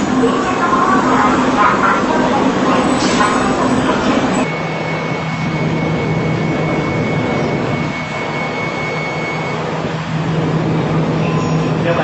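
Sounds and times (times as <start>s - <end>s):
thin high whine: 0.0s - 12.0s
train rushing: 0.0s - 12.0s.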